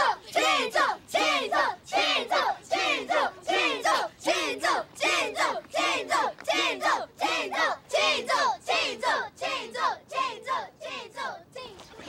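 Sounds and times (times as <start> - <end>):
crowd chanting in unison: 0.0 - 11.7.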